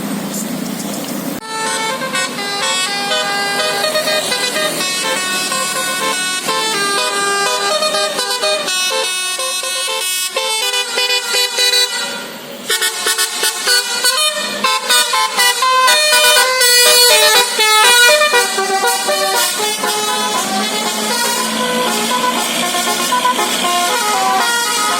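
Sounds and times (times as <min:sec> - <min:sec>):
bus musical air horn tune: 0:01.4 - 0:24.9.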